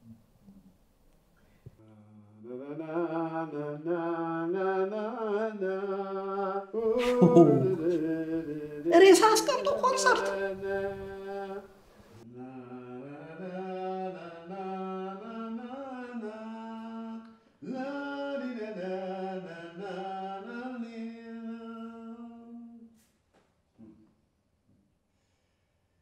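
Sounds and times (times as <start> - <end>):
person singing unaccompanied: 1.8 - 22.9.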